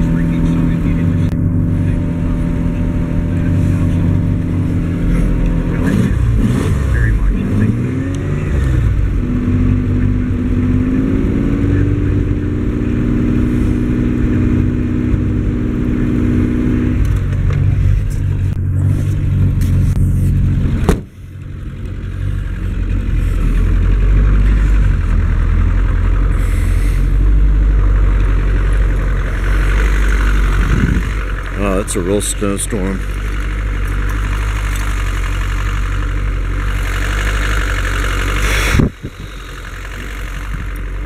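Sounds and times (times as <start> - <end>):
car engine revving: 0.0 - 41.0
low steady rumble: 0.0 - 41.0.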